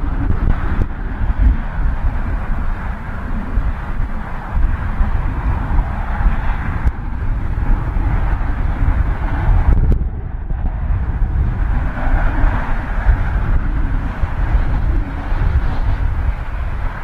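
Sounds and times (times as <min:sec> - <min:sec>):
jet airliner roar: 0:00.0 - 0:17.0
wind buffeting on microphone: 0:00.0 - 0:17.0.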